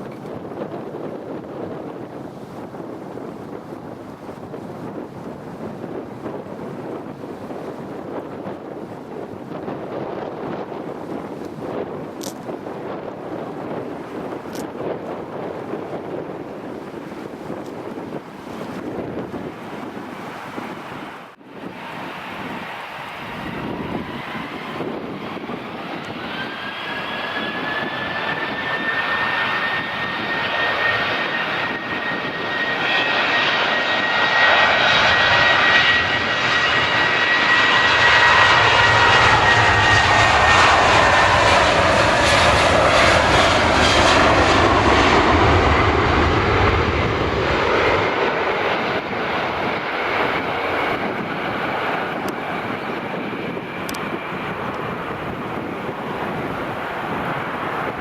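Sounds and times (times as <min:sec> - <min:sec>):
jet airliner passing: 0:00.0 - 0:58.0.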